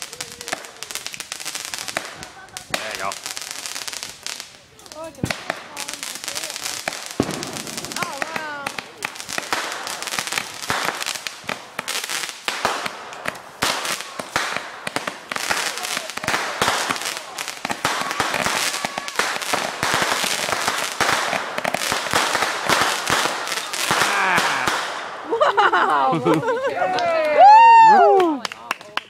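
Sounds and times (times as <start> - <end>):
fireworks crackling pops and bangs: 0.0 - 29.0.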